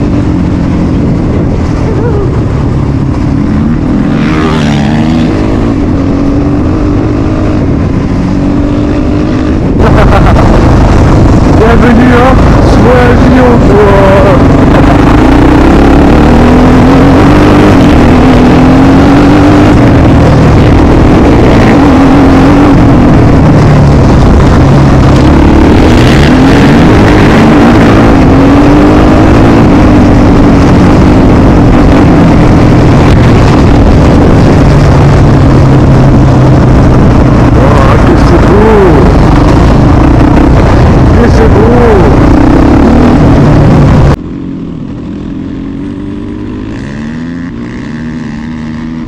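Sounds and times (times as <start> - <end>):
quad engine revving: 0.0 - 44.6.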